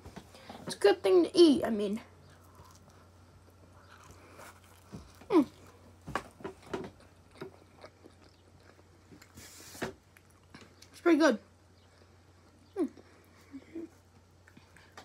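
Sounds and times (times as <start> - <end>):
chewing pizza: 2.2 - 11.0, 11.7 - 15.0.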